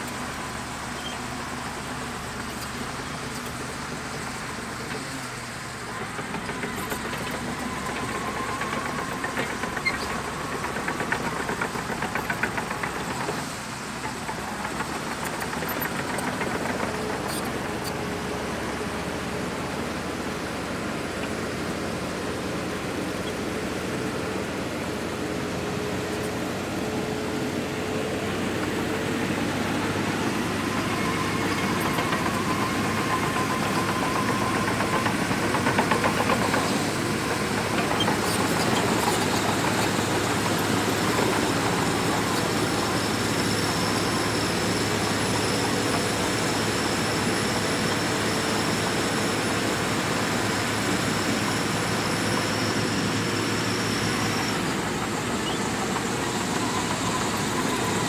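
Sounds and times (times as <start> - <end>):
bulldozer engine under load: 0.0 - 58.0.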